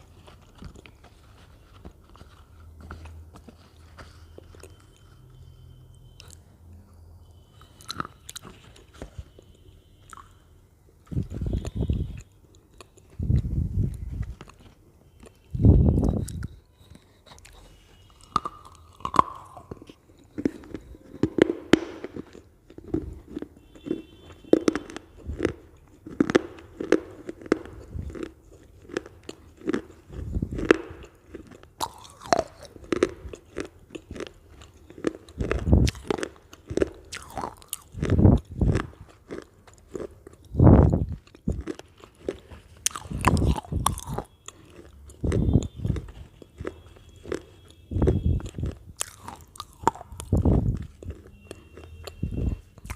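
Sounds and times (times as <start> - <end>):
crunching potato chips: 0.0 - 6.5, 7.4 - 52.9.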